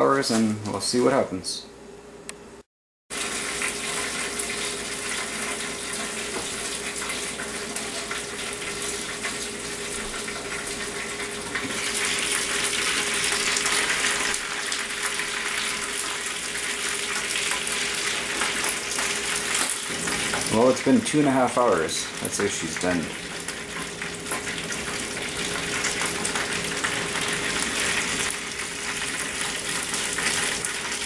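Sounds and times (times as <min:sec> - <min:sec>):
oven humming: 0:00.0 - 0:31.0
meat sizzling: 0:03.1 - 0:31.0.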